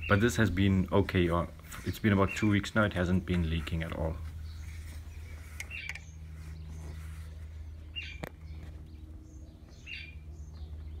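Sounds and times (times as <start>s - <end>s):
bird chirping: 0.0s - 11.0s
steady low hum: 0.0s - 11.0s.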